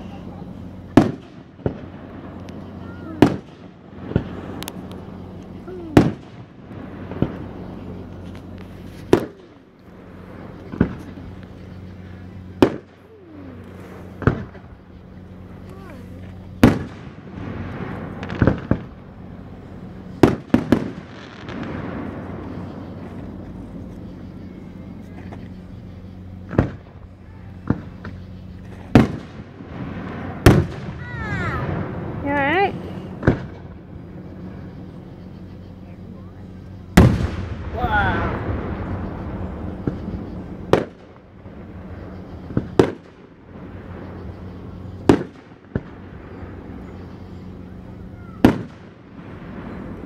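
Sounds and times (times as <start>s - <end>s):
firework shells booming: 0.0s - 35.8s, 36.7s - 50.0s
steady low hum: 0.0s - 50.0s.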